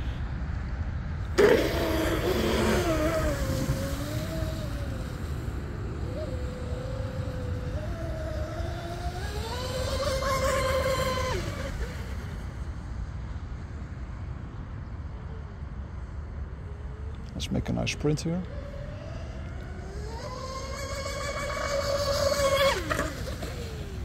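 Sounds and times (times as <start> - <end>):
rc boat motors whining: 1.3 - 14.3, 15.0 - 24.0.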